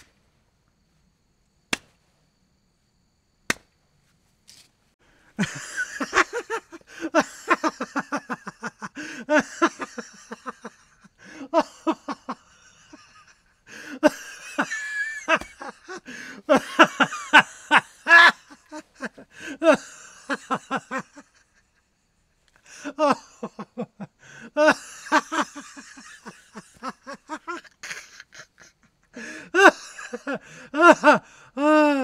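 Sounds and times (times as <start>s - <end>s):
people laughing hard: 5.2s - 22.0s, 22.6s - 32.0s.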